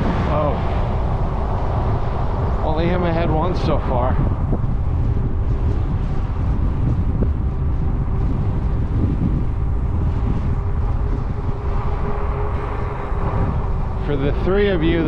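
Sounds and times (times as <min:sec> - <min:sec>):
low rumble of riding noise: 0:00.0 - 0:15.0
wind buffeting microphone: 0:00.0 - 0:15.0.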